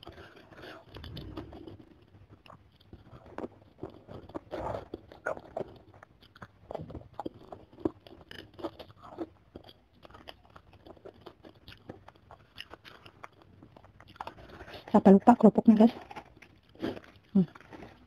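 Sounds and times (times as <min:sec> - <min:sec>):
chewing and crunching bones: 0:00.0 - 0:18.0.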